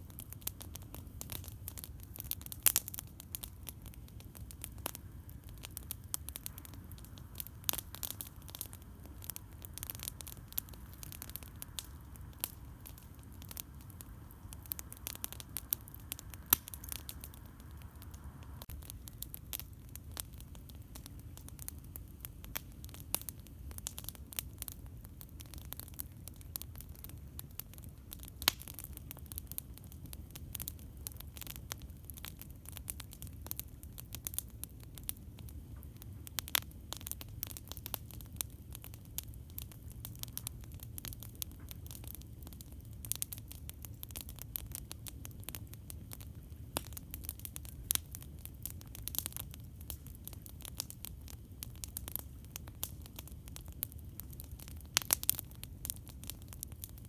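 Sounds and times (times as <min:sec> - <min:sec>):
campfire crackling and popping: 0:00.0 - 0:57.0
low background rumble: 0:00.0 - 0:57.0.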